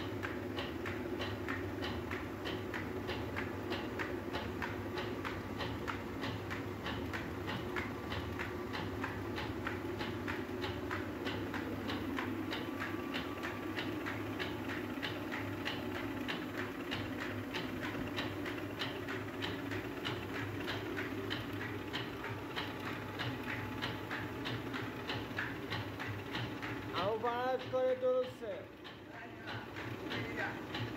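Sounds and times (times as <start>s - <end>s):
rhythmic clacking: 0.0s - 30.9s.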